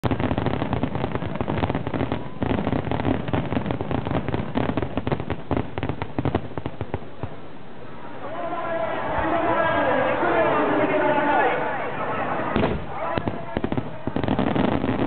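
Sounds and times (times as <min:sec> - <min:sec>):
fireworks bursting and crackling: 0:00.0 - 0:07.6, 0:08.3 - 0:15.0.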